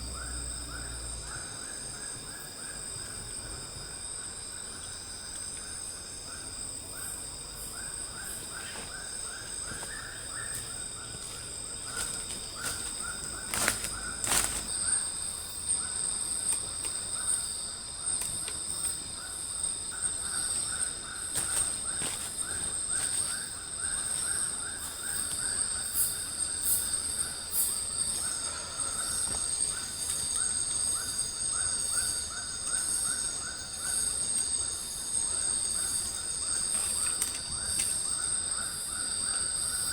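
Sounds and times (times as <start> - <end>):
insects trilling high: 0.0 - 39.9
low pulsing insect call: 0.0 - 39.9.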